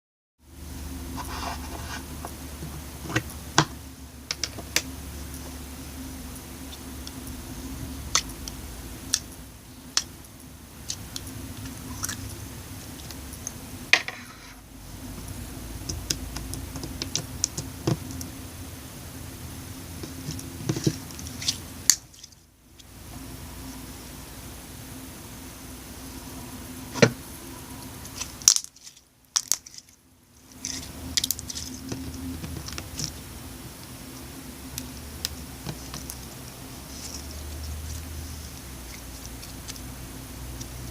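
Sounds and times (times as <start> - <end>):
steady low hum: 0.4 - 40.9.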